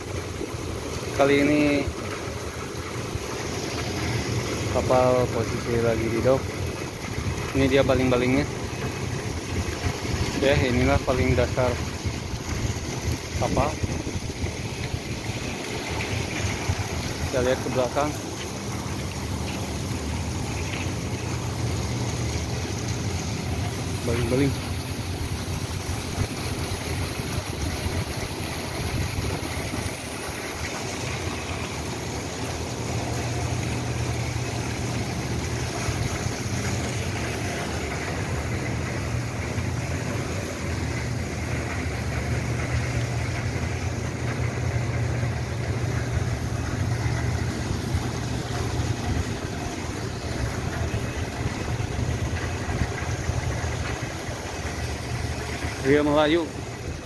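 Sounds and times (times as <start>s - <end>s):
low machinery drone: 0.0s - 57.0s.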